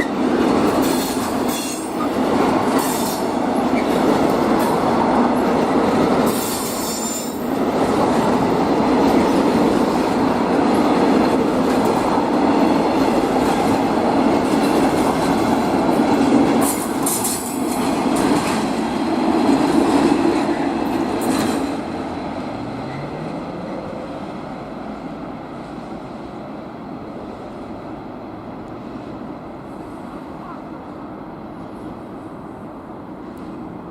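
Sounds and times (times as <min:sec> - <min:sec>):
freight train passing: 0:00.0 - 0:33.9.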